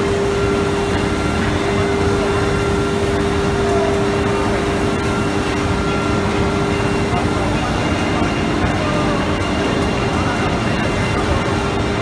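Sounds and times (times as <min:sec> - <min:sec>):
steady machine whine: 0:00.0 - 0:12.0.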